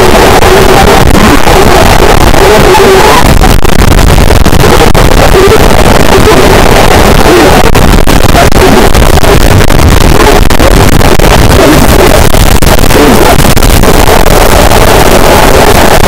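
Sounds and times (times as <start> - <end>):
wall of distorted noise: 0.0 - 16.0.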